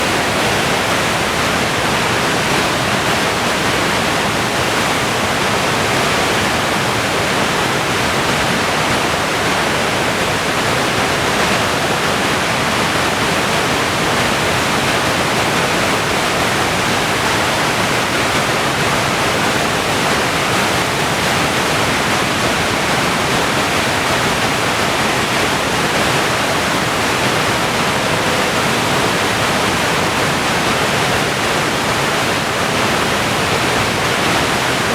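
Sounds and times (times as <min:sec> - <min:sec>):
river rapids rushing: 0:00.0 - 0:34.9.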